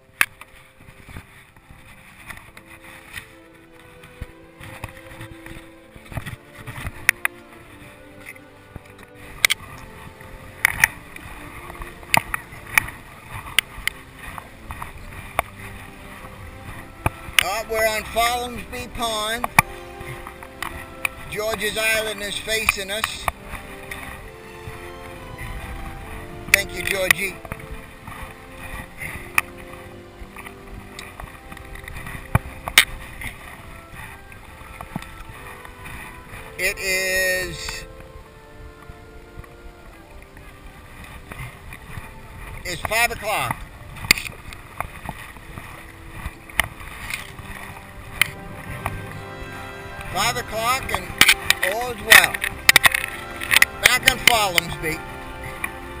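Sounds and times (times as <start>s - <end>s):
water swishing along boat: 0.0s - 56.0s.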